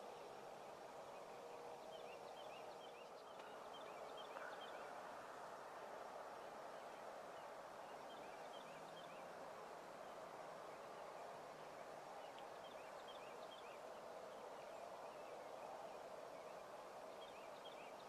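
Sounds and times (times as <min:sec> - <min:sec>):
quiet outdoor hiss: 0:00.0 - 0:18.0.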